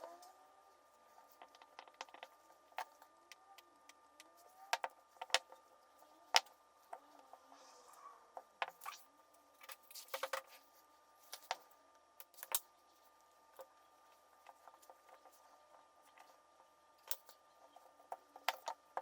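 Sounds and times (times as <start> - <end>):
faint thin whine: 0.0 - 19.0.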